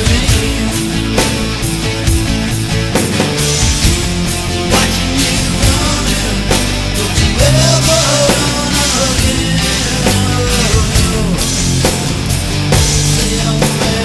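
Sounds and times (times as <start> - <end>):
rock song with guitar and bass: 0.0 - 14.0.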